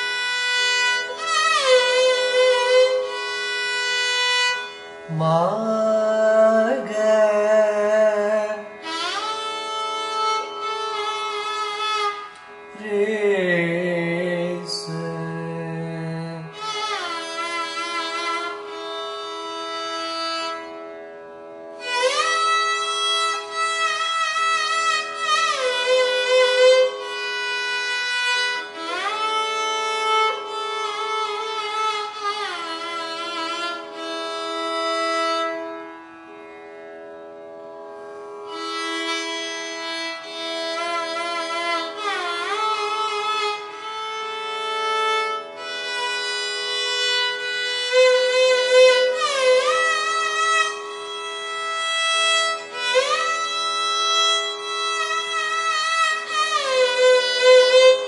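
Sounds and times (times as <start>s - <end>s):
violin melody: 0.0s - 58.0s.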